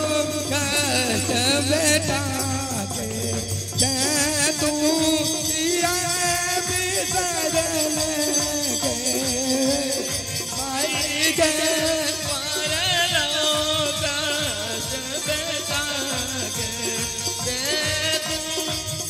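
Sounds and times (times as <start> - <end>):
hand drum beat: 0.0 - 19.0
harmonium: 0.0 - 19.0
man singing: 0.0 - 19.0.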